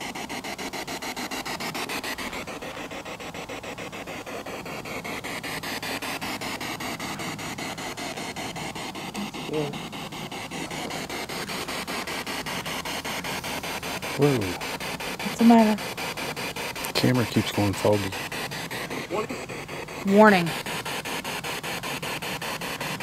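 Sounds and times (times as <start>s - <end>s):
pulsing radio static: 0.0s - 23.0s.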